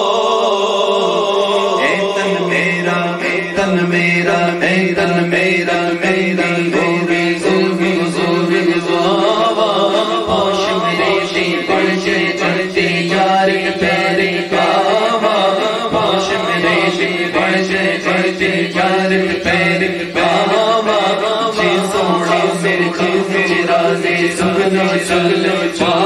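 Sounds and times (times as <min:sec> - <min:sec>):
men chanting devotional song: 0:00.0 - 0:26.0
steady held drone: 0:00.0 - 0:26.0.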